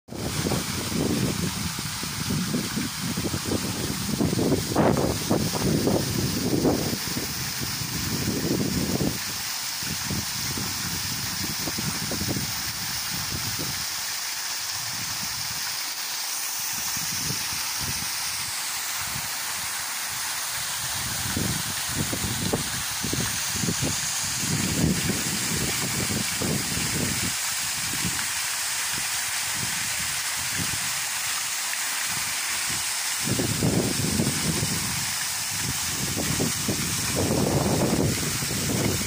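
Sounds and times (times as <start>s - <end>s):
waterfall rushing: 0.1s - 39.0s.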